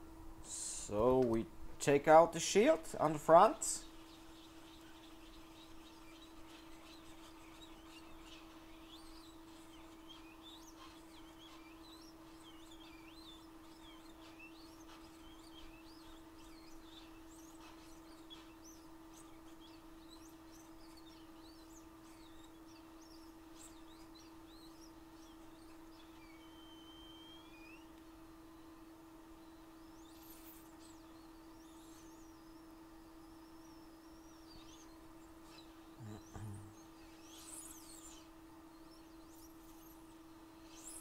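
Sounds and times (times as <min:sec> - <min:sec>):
faint high chirps: 0:03.8 - 0:41.0.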